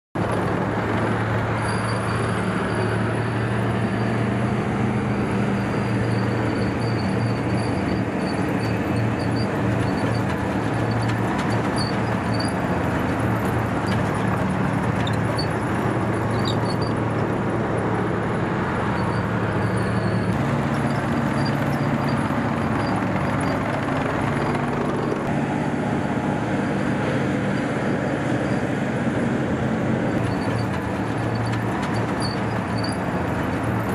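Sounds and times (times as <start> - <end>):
tank engine droning: 0.2 - 33.9.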